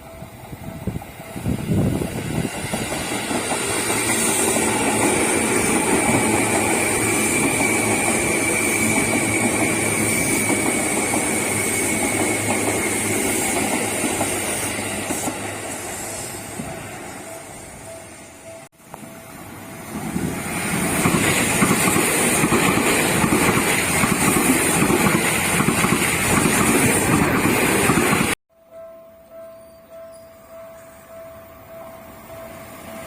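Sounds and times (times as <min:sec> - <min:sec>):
electric train passing with whine: 0:00.0 - 0:33.0.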